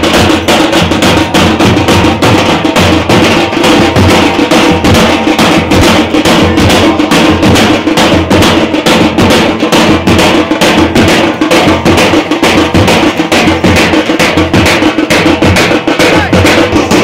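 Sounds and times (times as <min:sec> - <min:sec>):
loud continuous drumming: 0:00.0 - 0:17.0.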